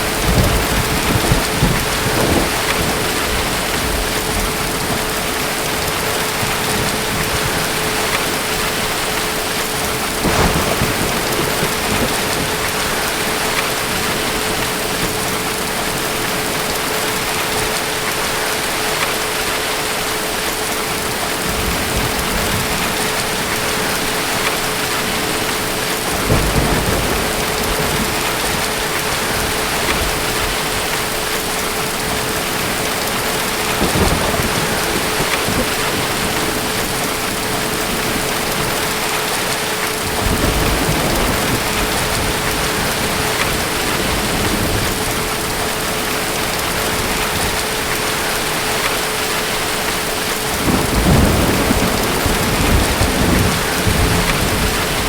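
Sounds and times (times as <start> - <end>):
distant thunder rumbling: 0.0 - 17.6, 21.4 - 48.9, 49.7 - 55.0
heavy rain: 0.0 - 55.0.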